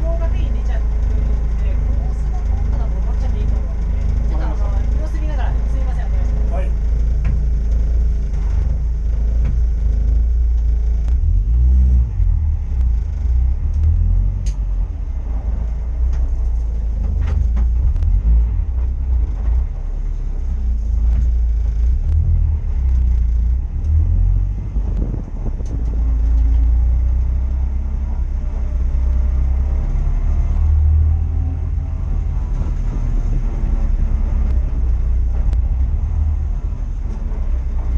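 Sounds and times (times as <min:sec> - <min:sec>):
racing engines rumbling: 0:00.0 - 0:37.9.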